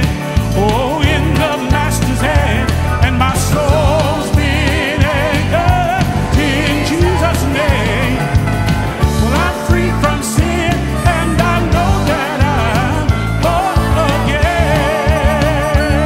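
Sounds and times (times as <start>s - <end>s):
band playing steady beat: 0.0s - 16.0s
man singing with vibrato: 0.0s - 16.0s.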